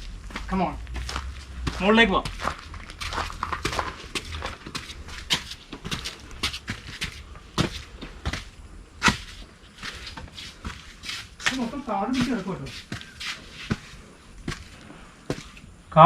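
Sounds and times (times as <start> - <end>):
footsteps crunching on forest ground: 0.0 - 15.7.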